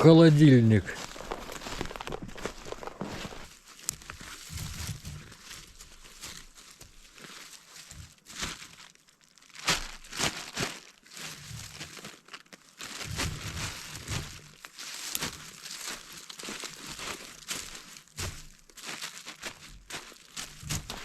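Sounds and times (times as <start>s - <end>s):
crinkling and rustling: 0.4s - 21.0s.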